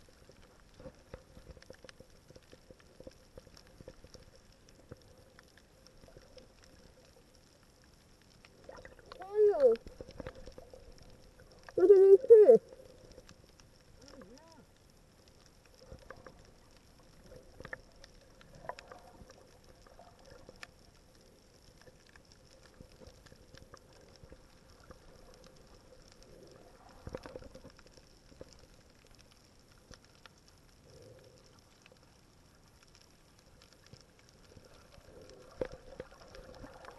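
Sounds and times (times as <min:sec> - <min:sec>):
faint underwater hiss: 0:00.0 - 0:36.9
small clicks and crackles: 0:00.0 - 0:36.9.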